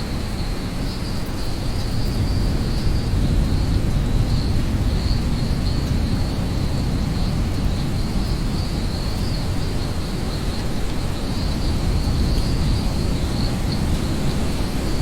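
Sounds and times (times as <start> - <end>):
insects chirping: 0.0 - 15.0
steady rain: 0.0 - 15.0.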